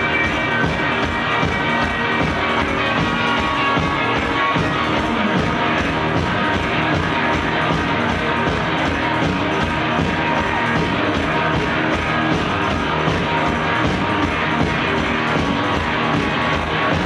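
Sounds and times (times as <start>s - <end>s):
electric guitar: 0.0s - 17.0s
rock band playing loudly: 0.0s - 17.0s
steady drum beat: 0.0s - 17.0s.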